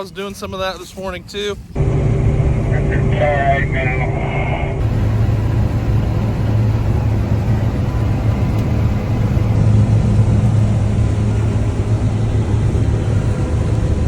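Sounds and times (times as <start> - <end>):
combine harvester running: 1.8 - 14.0.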